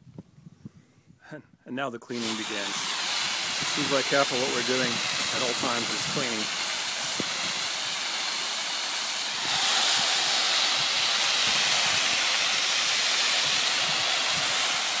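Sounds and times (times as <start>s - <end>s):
spray hitting steel cylinder: 2.1s - 15.0s
water spraying from hose nozzle: 2.1s - 15.0s.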